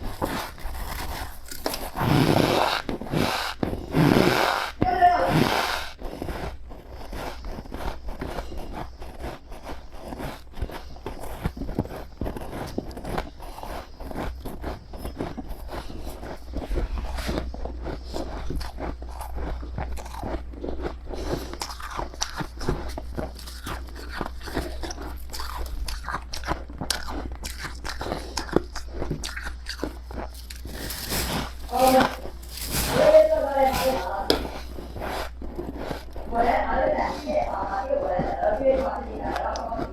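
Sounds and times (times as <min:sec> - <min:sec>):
chewing frost ice: 0:00.0 - 0:39.9.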